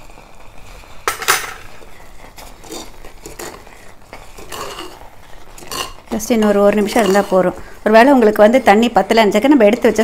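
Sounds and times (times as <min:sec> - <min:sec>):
ladle scraping clay pot: 0:00.0 - 0:09.2.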